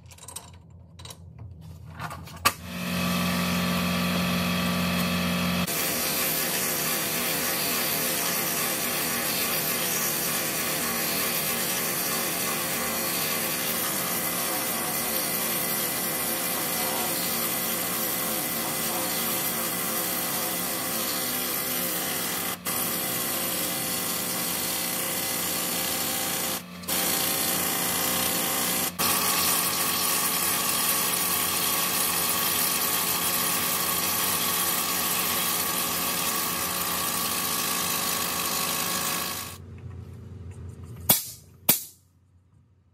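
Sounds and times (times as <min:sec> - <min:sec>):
pneumatic tool on steel: 0:04.9 - 0:39.6.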